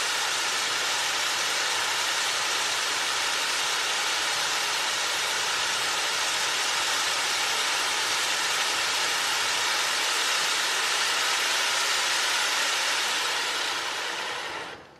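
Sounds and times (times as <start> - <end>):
firework wheel hissing: 0.0 - 14.9.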